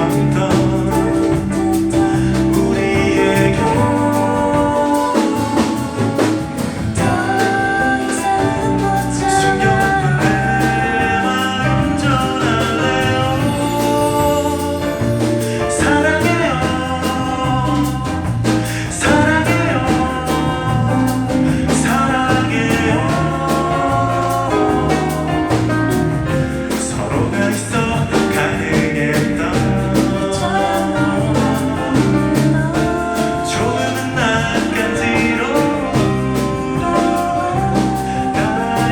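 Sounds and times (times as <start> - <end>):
guitar accompaniment: 0.0 - 38.9
person singing: 0.0 - 38.9.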